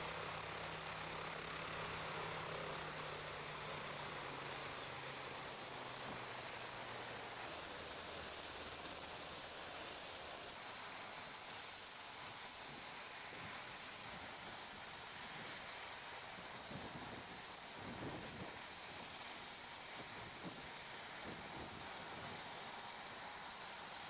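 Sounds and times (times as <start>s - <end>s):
steady hissing noise: 0.0s - 24.0s.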